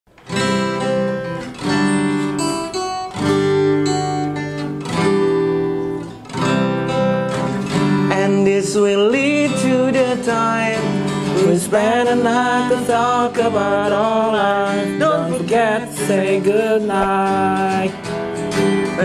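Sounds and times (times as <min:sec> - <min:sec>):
acoustic guitar strummed: 0:00.1 - 0:19.0.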